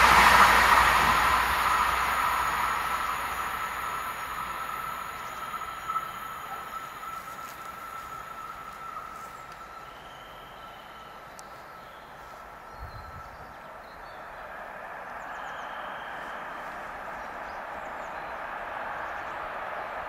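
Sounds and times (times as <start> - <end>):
train wagons rolling past: 0.0 - 20.0.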